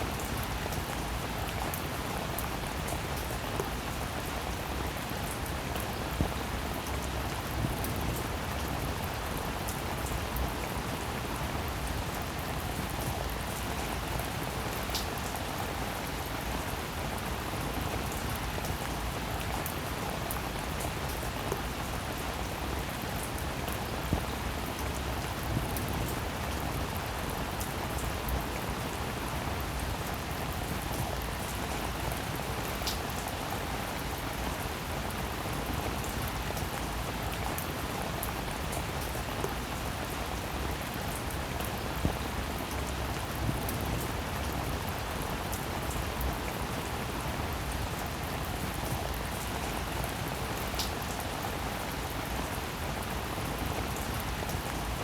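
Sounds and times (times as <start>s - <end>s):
steady rain: 0.0s - 55.0s
raindrops ticking close by: 0.1s - 55.0s.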